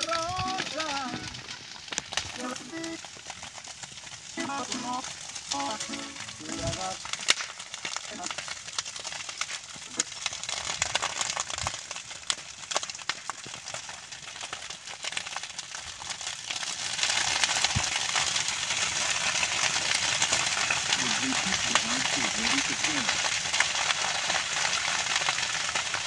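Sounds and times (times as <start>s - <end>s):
dry grass crackling as it burns: 0.0s - 26.0s.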